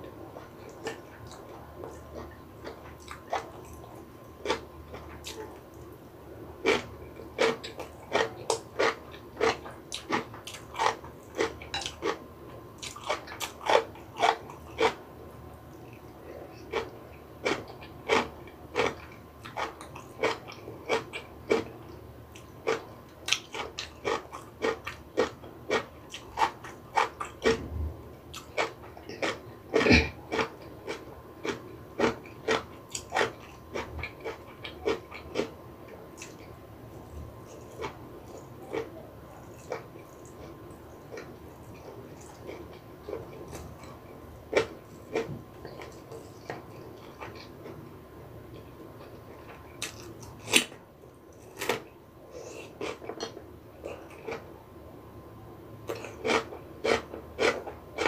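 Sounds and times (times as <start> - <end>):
chewing crunchy food: 0.0 - 54.6, 55.8 - 58.0.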